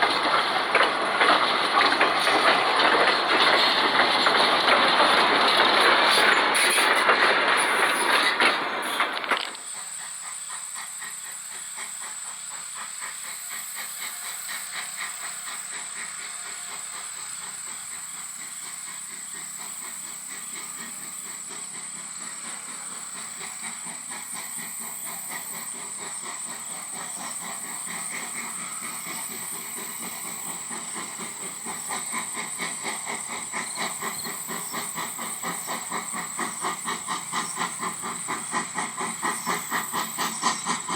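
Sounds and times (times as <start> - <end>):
steam hissing: 0.0 - 40.9
steam locomotive chuffing: 0.0 - 40.9.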